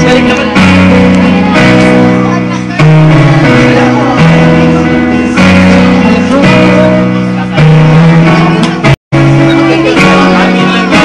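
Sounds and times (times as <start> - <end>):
amplified instrumental accompaniment: 0.0 - 11.0.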